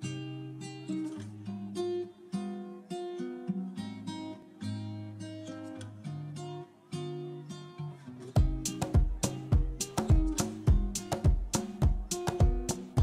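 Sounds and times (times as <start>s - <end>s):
acoustic guitar picking melody: 0.0s - 13.0s.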